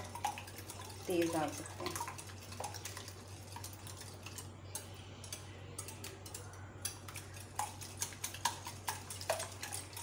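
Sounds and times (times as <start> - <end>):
whisk clicking against glass bowl: 0.0 - 10.0.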